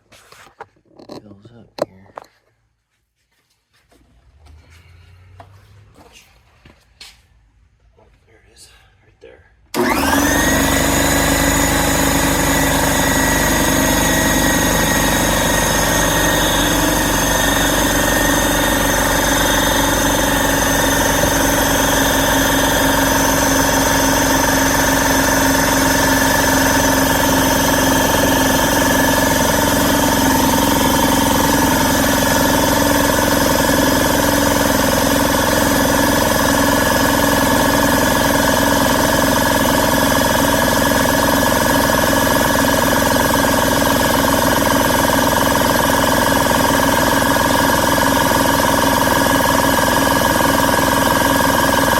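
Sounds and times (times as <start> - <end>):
electric air compressor running: 9.7 - 51.9.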